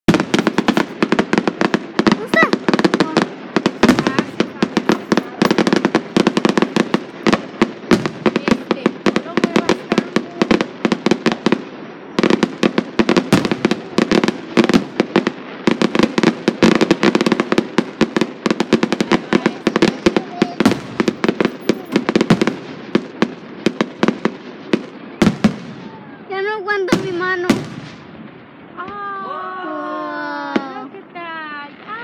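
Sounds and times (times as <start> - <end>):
fireworks bangs and pops: 0.1 - 29.4, 30.0 - 32.0.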